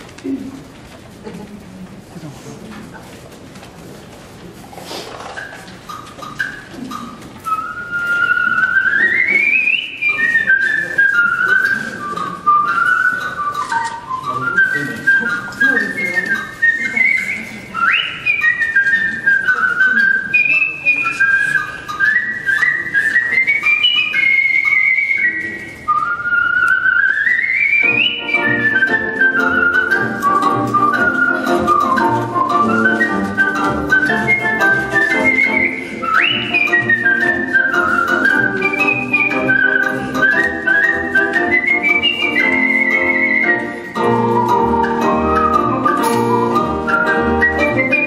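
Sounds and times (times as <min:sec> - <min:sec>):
person whistling a melody: 0:06.2 - 0:48.0.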